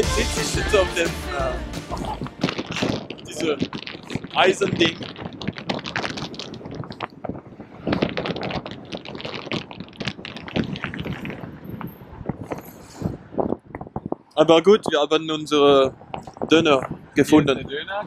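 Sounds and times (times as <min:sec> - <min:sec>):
wind buffeting microphone: 0:01.9 - 0:18.0.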